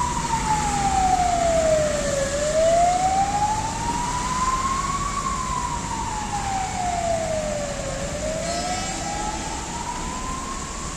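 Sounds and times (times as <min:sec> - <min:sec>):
fire engine siren wailing: 0:00.0 - 0:10.9
road traffic: 0:00.0 - 0:10.9.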